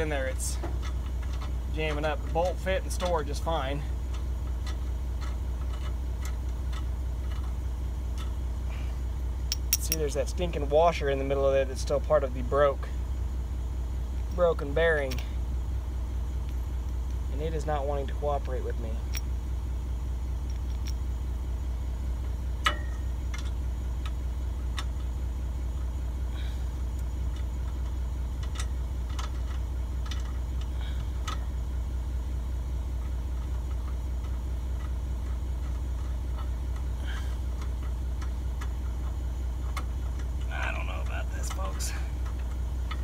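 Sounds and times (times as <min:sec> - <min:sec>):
tractor engine idling: 0:00.0 - 0:43.0.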